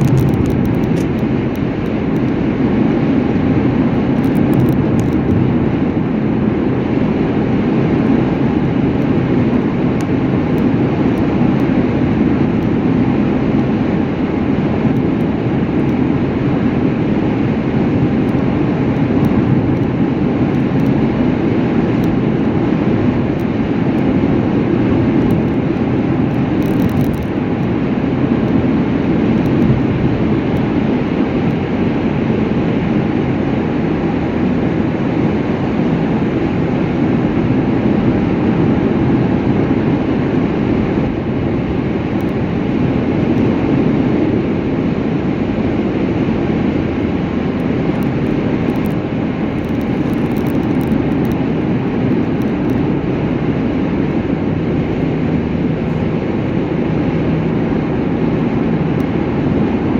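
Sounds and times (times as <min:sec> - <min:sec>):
vehicle road noise at speed: 0:00.0 - 0:59.9.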